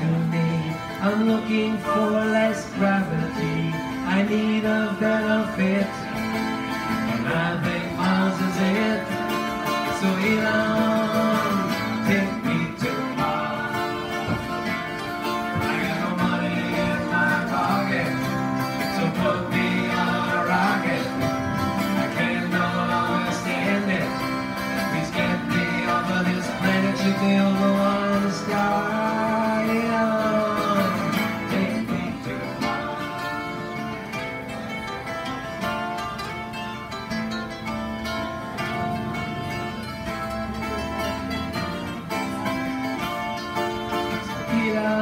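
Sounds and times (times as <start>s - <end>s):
acoustic guitars playing: 0.0s - 45.0s.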